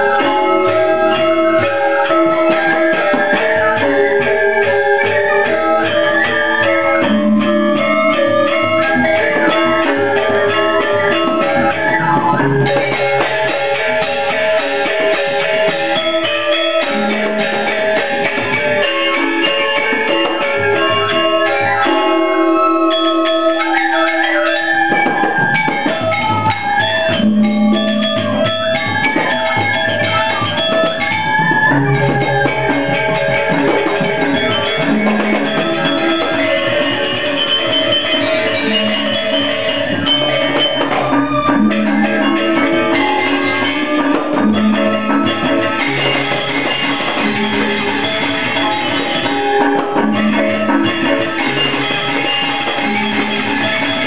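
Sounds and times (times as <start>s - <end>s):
drums: 0.0s - 54.0s
gamelan orchestra playing: 0.0s - 54.0s
ringing bronze metallophones: 0.0s - 54.0s.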